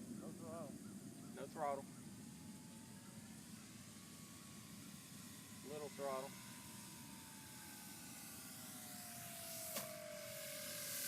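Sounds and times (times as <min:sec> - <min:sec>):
distant model plane motor whine: 0:00.0 - 0:11.0
low background noise: 0:00.0 - 0:11.0.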